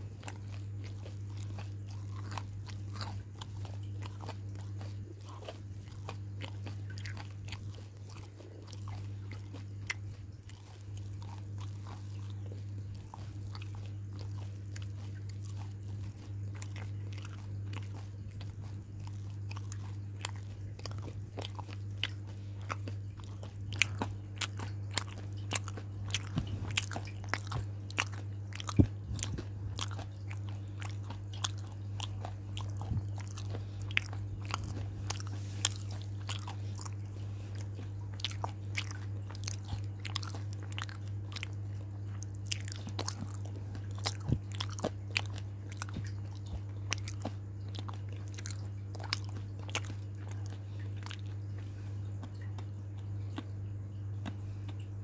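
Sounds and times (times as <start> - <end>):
crunching and chewing: 0.0 - 55.0
steady low hum: 0.0 - 55.0.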